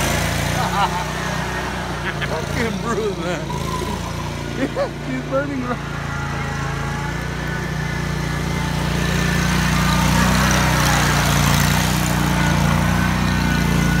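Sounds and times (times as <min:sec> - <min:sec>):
mower engine running: 0:00.0 - 0:14.0.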